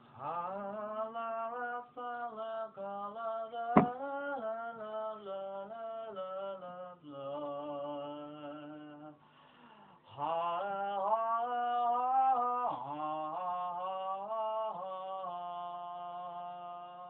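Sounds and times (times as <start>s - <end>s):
person singing slow melody: 0.0s - 17.0s.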